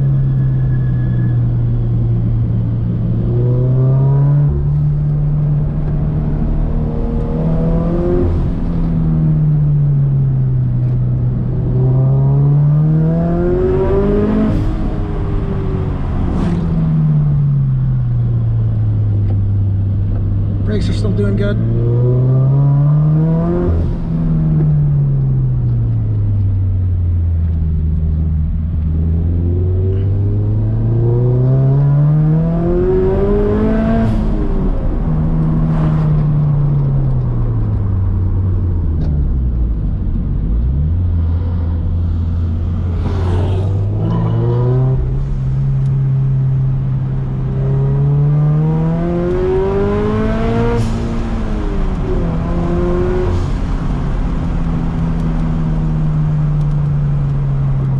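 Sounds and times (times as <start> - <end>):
car engine revving: 2.3 - 25.2, 26.2 - 57.9.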